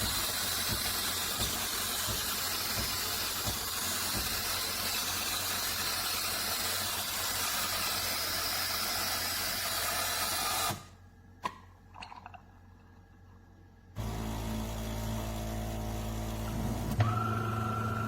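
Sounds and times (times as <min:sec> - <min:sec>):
espresso machine steam hissing: 0:00.0 - 0:10.8, 0:14.0 - 0:18.0.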